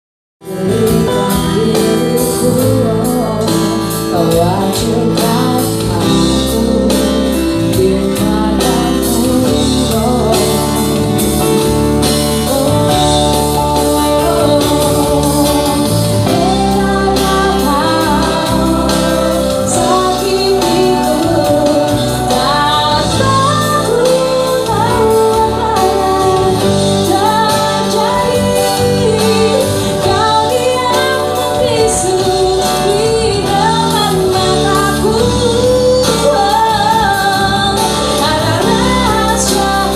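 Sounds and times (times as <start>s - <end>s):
band playing pop song: 0.4s - 39.9s
person singing: 0.4s - 39.9s.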